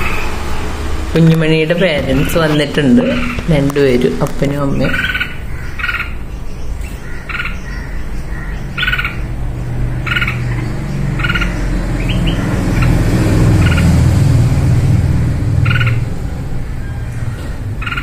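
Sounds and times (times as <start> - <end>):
steady low rumble: 0.0 - 18.0
small bird calling: 2.0 - 14.1, 15.5 - 18.0.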